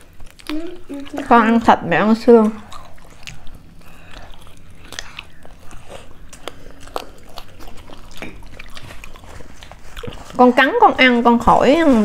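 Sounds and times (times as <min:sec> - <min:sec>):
chewing chicken wing: 0:00.0 - 0:11.4.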